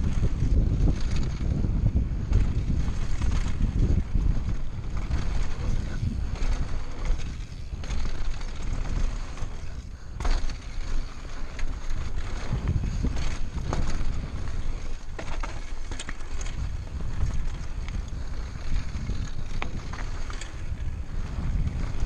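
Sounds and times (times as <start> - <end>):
bike knocks and rattles: 0.0 - 22.0
wind buffeting microphone: 0.0 - 22.0
tyres on gravel: 2.2 - 22.0.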